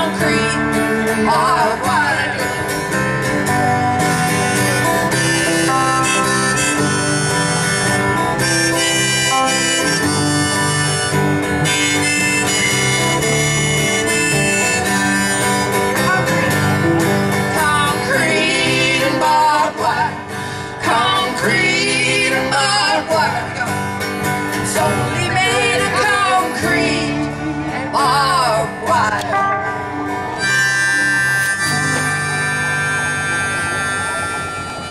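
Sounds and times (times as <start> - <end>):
bending wavering lead guitar: 0.0 - 34.9
country band playing guitars: 0.0 - 34.9.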